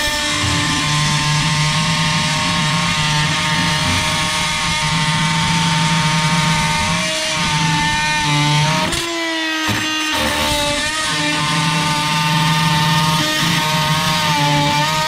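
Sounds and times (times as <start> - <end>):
oscillating tool cutting steel: 0.0 - 15.0.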